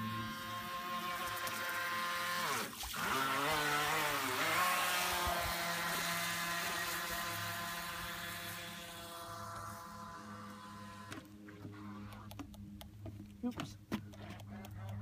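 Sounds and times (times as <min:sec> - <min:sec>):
model boat motor whining: 0:00.0 - 0:12.7.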